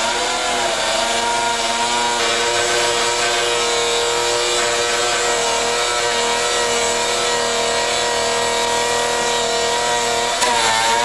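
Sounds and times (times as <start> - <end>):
grinding wheel on stone: 0.0 - 11.0.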